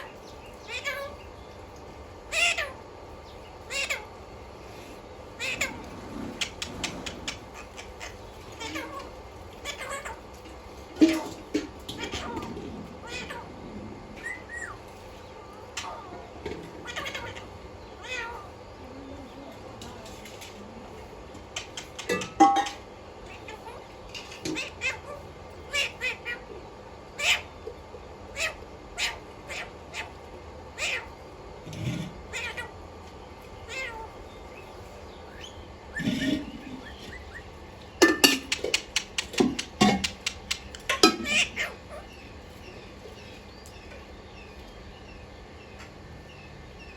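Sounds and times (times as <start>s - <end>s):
parrot calls and squawks: 0.0s - 19.2s, 21.4s - 44.6s.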